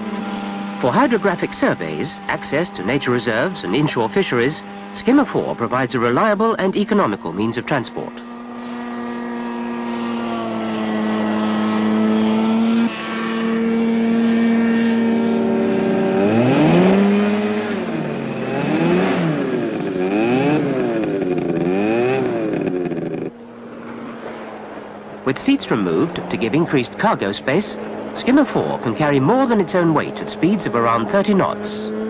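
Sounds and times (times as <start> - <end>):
hovercraft engine revving: 0.0 - 32.0.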